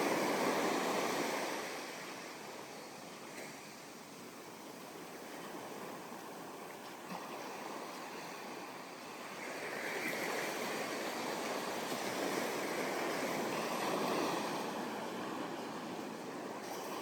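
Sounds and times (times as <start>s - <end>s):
waves breaking on beach: 0.0s - 17.0s.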